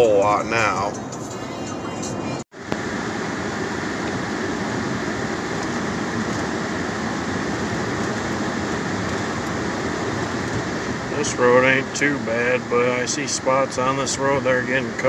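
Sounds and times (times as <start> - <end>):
tyre noise on wet road: 2.6 - 15.0.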